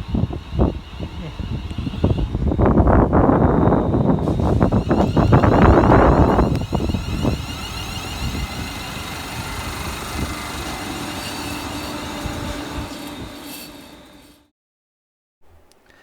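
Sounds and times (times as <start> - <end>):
electric train running away: 0.0 - 14.5.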